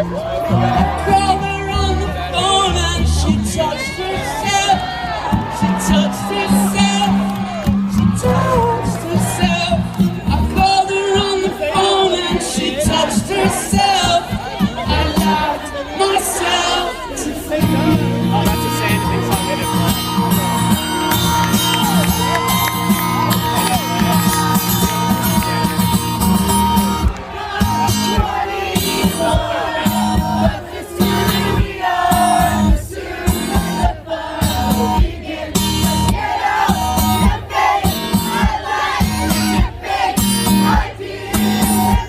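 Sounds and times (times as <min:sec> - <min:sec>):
crowd singing along and shouting: 0:00.0 - 0:42.0
live rock song with singing: 0:00.0 - 0:42.0.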